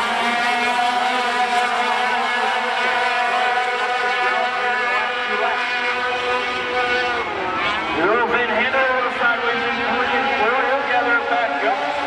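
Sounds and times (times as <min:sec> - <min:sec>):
racing truck engines revving: 0:00.0 - 0:12.0.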